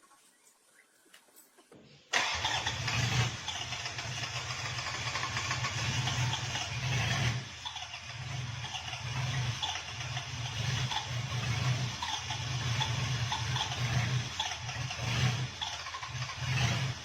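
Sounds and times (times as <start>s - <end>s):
engine cranking: 2.1s - 17.0s
engine running at fast idle: 2.1s - 17.0s.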